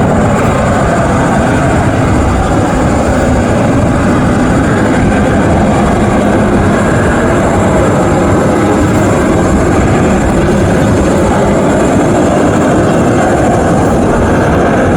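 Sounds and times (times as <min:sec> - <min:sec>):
jet engine roaring: 0:00.0 - 0:14.9.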